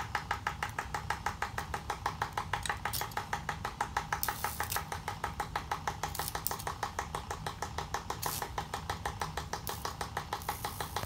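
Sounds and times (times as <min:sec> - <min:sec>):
rapid even clicking: 0:00.0 - 0:11.0.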